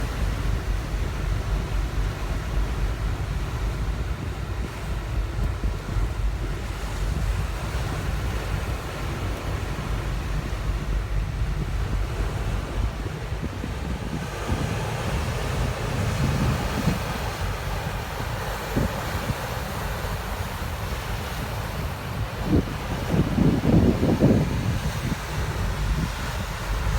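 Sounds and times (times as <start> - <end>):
sea and ship noise: 0.0 - 26.9
wind buffeting microphone: 0.0 - 26.9.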